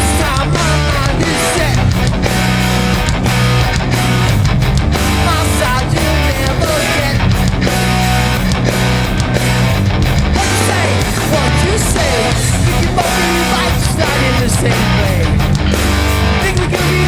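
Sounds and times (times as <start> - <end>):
punk band playing live: 0.0 - 17.0.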